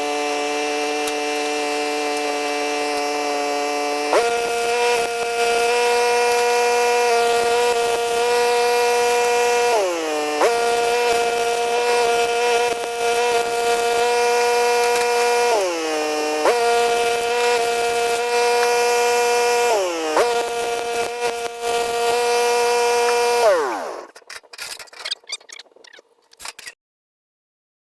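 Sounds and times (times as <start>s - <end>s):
power tool motor whining: 0.0s - 26.8s.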